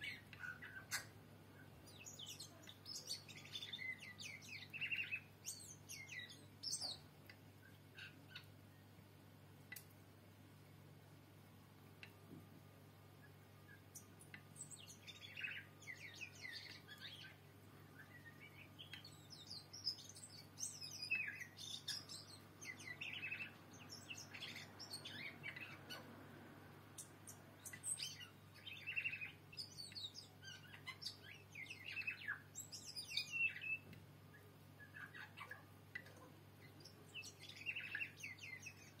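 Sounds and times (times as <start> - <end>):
bird chirping: 0.0 - 10.0, 11.8 - 39.0
faint low hum: 0.0 - 39.0.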